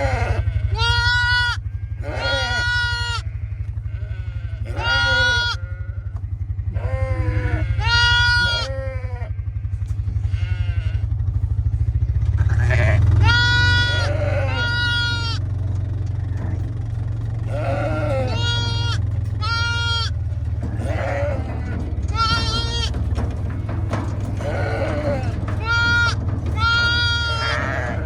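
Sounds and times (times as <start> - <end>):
sheep bleating: 0.0 - 11.1, 11.7 - 15.4, 17.4 - 28.0
steady low hum: 0.0 - 28.0.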